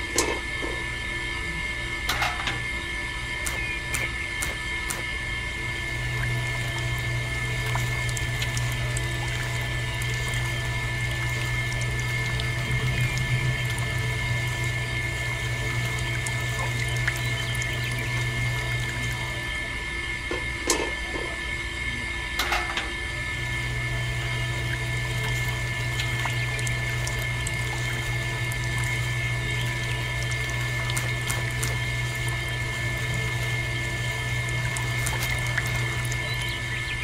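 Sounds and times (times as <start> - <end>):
electric motor humming and whining: 0.0 - 37.0
juice trickling: 3.6 - 21.6, 23.2 - 37.0.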